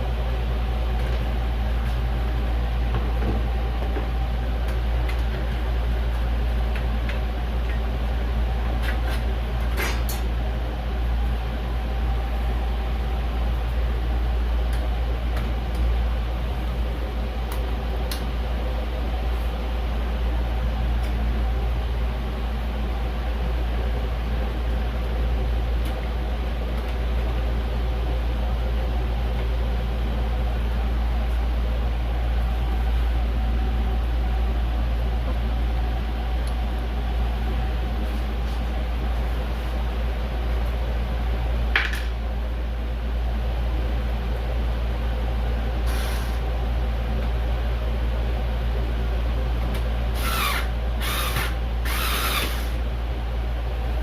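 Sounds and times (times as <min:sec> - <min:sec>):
faint humming tones: 0:00.0 - 0:54.0
low mechanical drone: 0:00.0 - 0:54.0.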